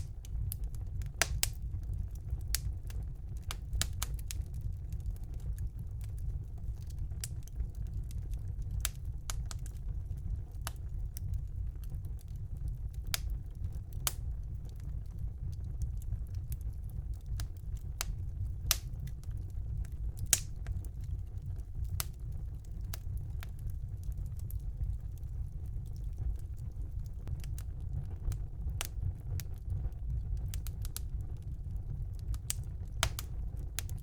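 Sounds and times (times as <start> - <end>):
low rumble of flames: 0.0 - 34.0
wood fire crackling and popping: 0.0 - 34.0.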